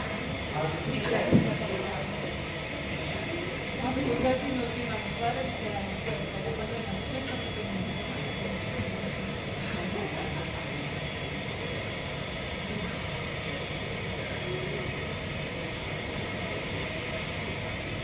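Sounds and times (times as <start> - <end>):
jet engine rumble: 0.0 - 18.0.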